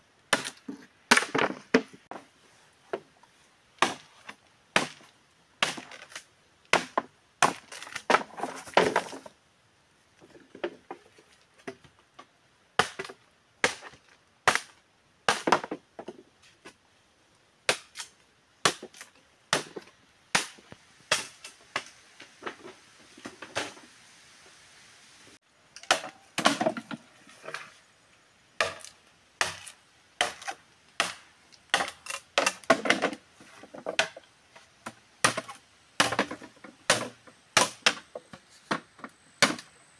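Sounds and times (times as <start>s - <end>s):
bamboo poles knocking together: 0.3s - 2.2s, 3.8s - 9.3s, 10.2s - 16.8s, 17.7s - 23.8s, 25.8s - 27.7s, 28.6s - 39.7s.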